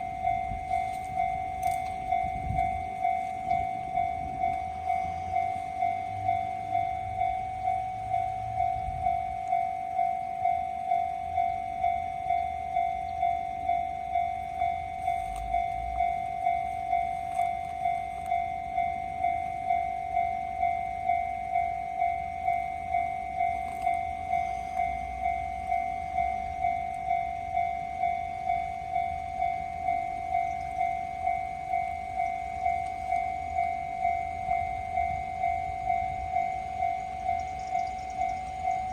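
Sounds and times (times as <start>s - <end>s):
level crossing warning bell: 0.0s - 38.9s.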